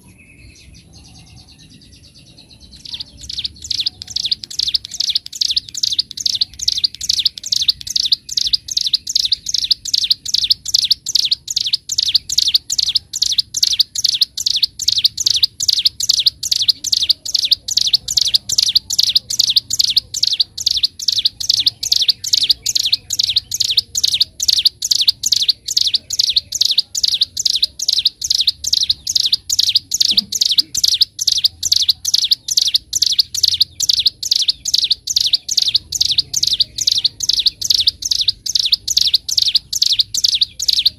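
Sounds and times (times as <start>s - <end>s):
bird chirping rapidly: 0.0s - 40.9s.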